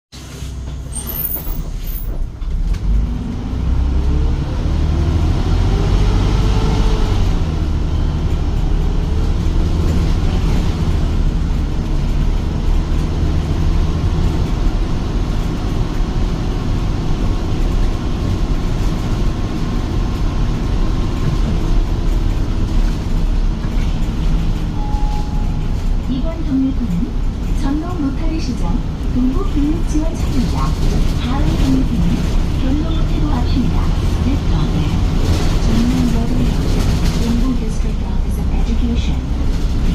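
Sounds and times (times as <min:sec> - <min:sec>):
bus engine pulling away: 0:00.2 - 0:39.9.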